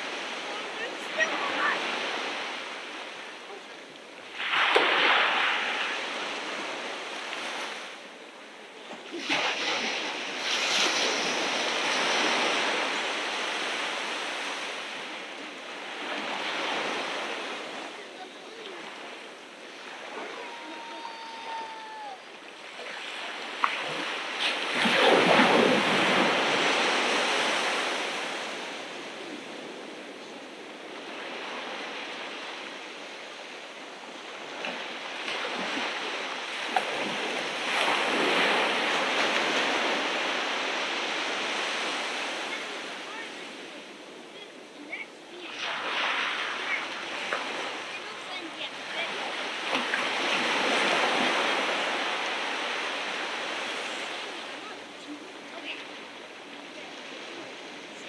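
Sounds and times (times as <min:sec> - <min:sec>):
ocean surf washing onto beach: 0:00.0 - 0:58.0.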